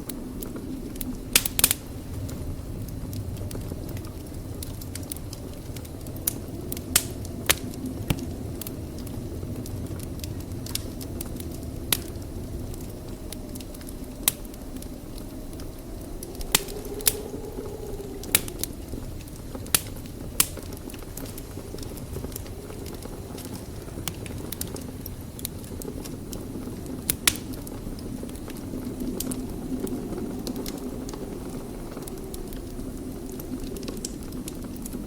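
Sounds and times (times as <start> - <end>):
fire crackling and popping: 0.0 - 35.0
low rumble of flames: 0.0 - 35.0.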